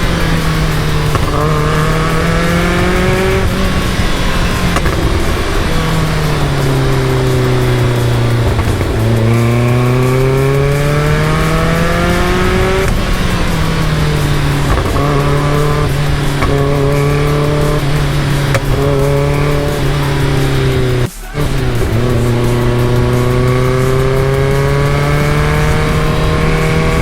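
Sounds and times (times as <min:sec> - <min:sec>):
car engine revving through gears: 0:00.0 - 0:27.0.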